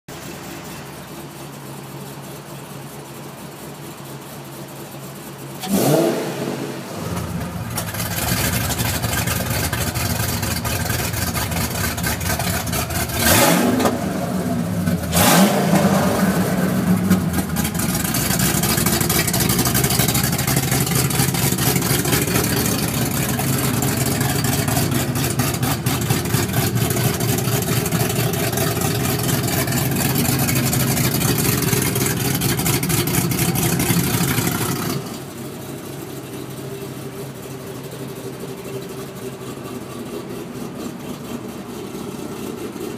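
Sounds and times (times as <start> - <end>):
car engine idling and revving: 0.1 - 42.9.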